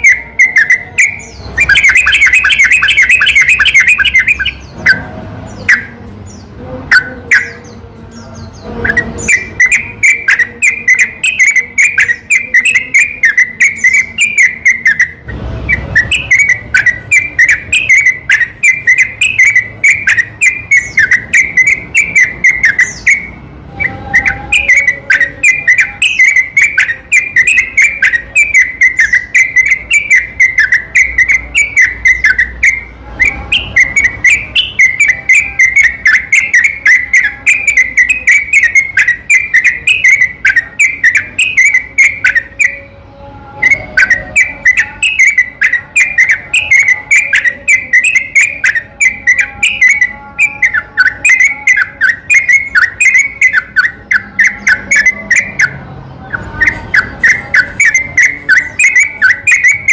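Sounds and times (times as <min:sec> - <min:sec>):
bulbul song: 0:00.0 - 0:59.9.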